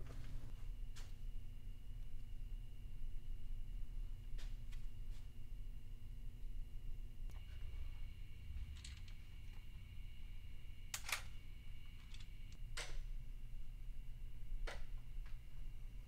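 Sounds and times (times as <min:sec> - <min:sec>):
faint high-pitched whine: 0:00.0 - 0:16.0
low hum: 0:00.0 - 0:16.0.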